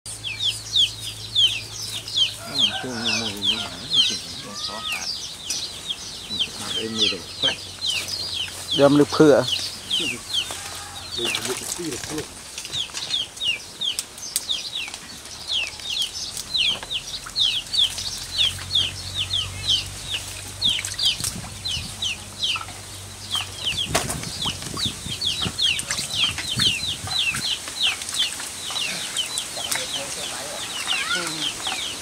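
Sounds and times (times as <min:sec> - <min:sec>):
chicks peeping: 0:00.1 - 0:32.0.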